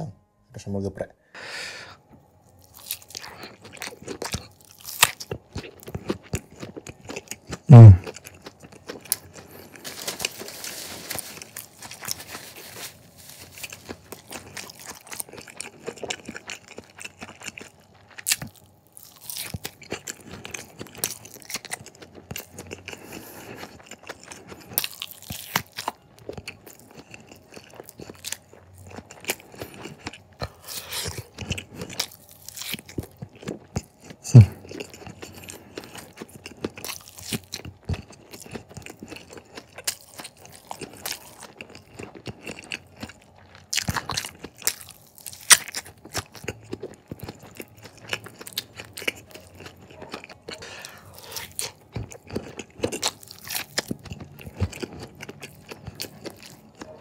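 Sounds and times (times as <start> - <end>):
biting and chewing: 2.5 - 57.0.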